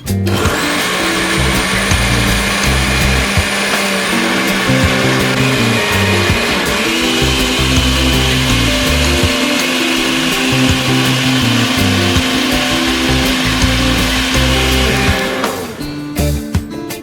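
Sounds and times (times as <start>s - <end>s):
background music: 0.0s - 17.0s
blender motor whirring: 0.3s - 16.0s.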